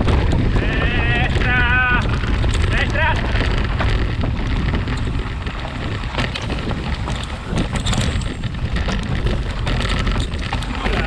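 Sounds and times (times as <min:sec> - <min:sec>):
bike rattling and clicking: 0:00.0 - 0:11.0
tyres rolling over dirt and leaves: 0:00.0 - 0:11.0
wind rumbling on microphone: 0:00.0 - 0:11.0.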